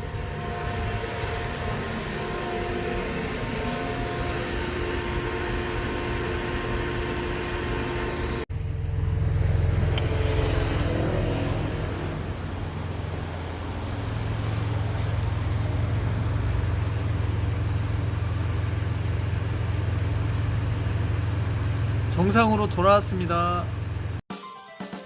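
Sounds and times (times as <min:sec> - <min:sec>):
car engine idling: 0:00.0 - 0:24.2
steady mechanical hum: 0:00.0 - 0:24.2.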